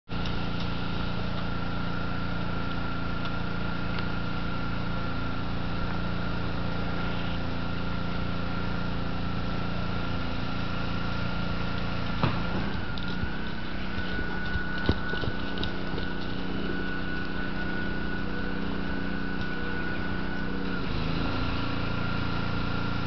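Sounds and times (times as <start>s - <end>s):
mechanical hum with high whine: 0.1s - 23.0s.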